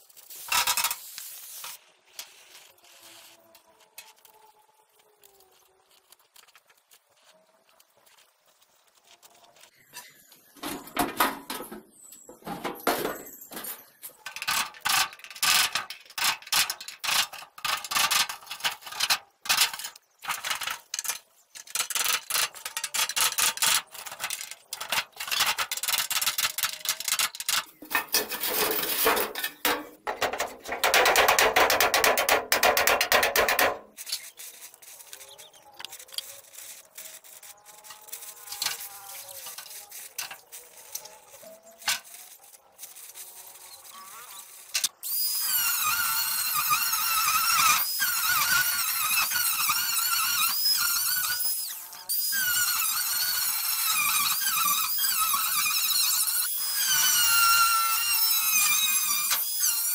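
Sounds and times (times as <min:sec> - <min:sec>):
hand tool scraping: 0:05.4 - 0:59.9.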